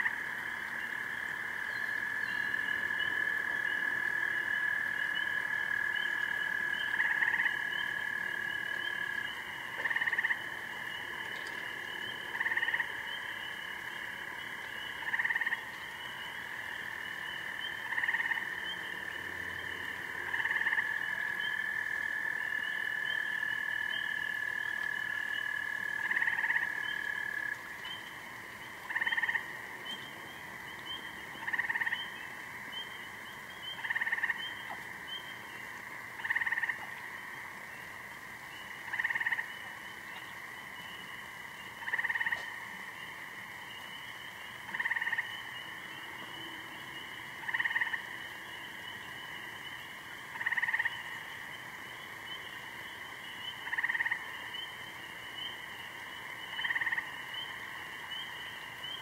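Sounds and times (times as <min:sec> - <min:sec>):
faint frog chorus: 0:00.0 - 0:59.0.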